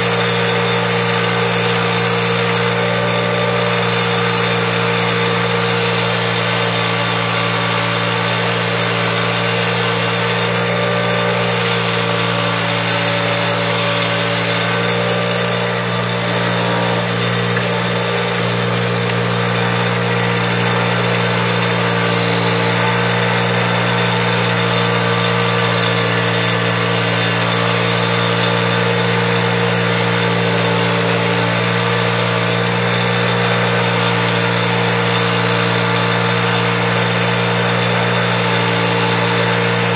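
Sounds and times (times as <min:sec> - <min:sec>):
bench grinder motor hum: 0:00.0 - 0:39.9
wire wheel scratching metal: 0:00.0 - 0:39.9.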